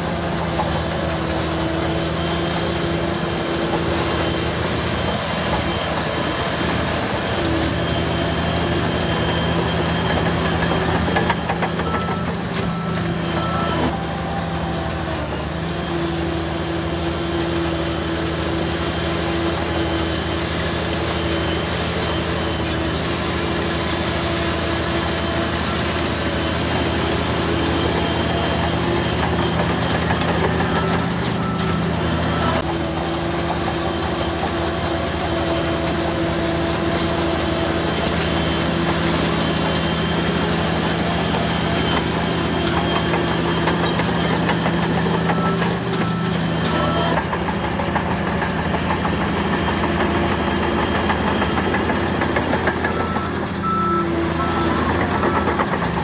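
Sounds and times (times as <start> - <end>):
bulldozer engines running: 0.0 - 56.0.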